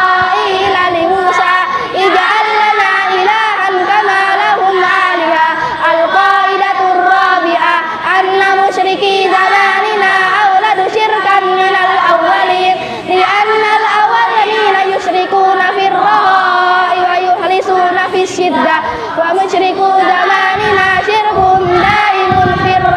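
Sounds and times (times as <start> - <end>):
children chanting in unison: 0.0 - 22.9.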